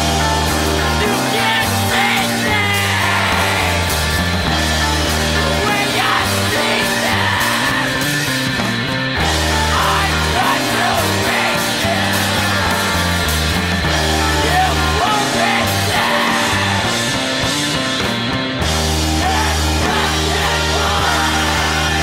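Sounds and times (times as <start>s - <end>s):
person singing: 0.0s - 8.4s, 9.2s - 17.2s, 19.2s - 22.0s
rock band song: 0.0s - 22.0s.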